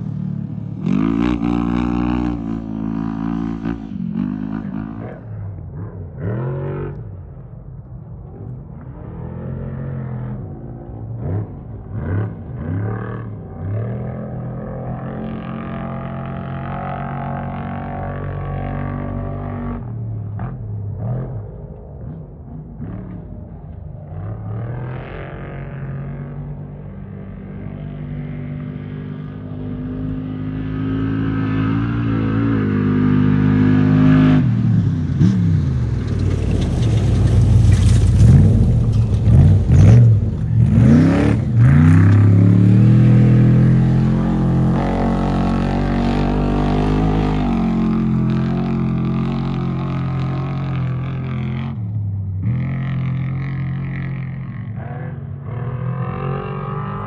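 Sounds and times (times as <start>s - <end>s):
off-road vehicle engine revving: 0.0s - 7.2s, 8.3s - 57.0s.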